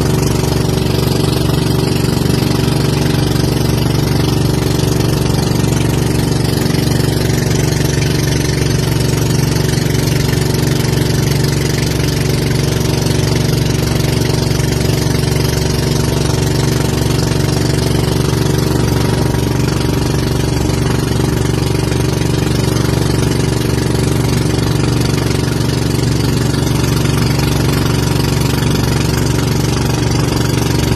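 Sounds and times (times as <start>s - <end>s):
boat engine droning: 0.0s - 30.9s.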